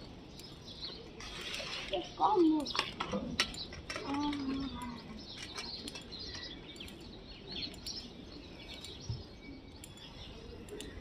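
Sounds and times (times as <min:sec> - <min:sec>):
outdoor background noise: 0:00.0 - 0:11.0
small birds chirping: 0:00.0 - 0:11.0.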